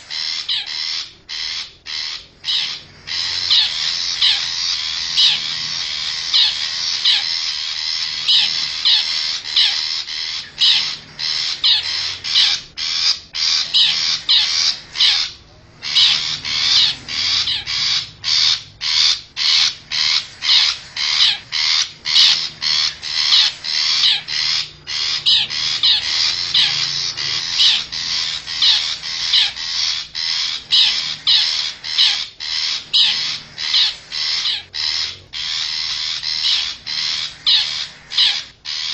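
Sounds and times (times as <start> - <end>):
shrike giving harsh scratchy calls: 0.0 - 38.9.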